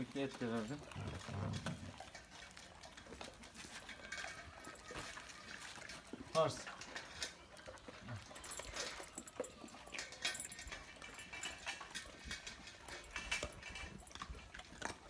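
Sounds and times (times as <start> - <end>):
dogs gnawing on bones: 0.0 - 15.0.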